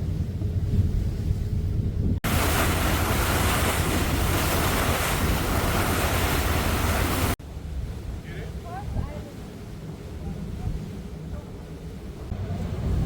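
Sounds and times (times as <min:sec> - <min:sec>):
wind and surf rushing: 0:00.0 - 0:13.0
wind buffeting microphone: 0:00.0 - 0:13.0.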